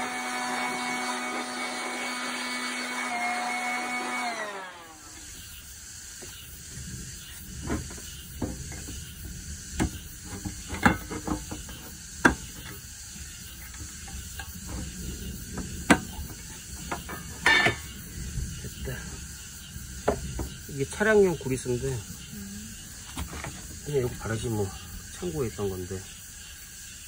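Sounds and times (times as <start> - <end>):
faint steady hiss: 4.8 - 27.0.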